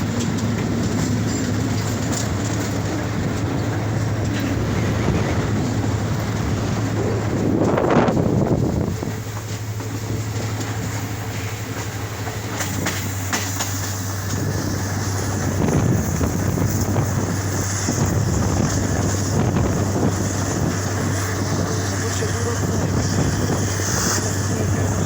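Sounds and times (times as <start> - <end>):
wind rushing over microphone: 0.0 - 10.9, 14.0 - 25.0.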